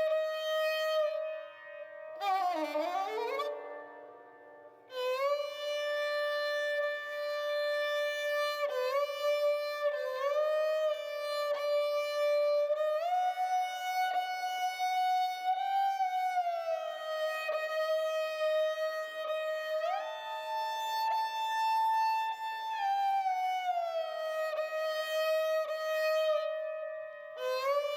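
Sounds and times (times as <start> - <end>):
slow violin melody: 0.0 - 27.9.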